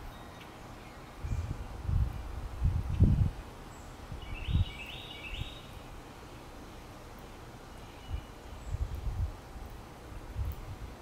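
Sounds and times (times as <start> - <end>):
songbird chirping: 0.0 - 9.2
outdoor background hiss: 0.0 - 11.0.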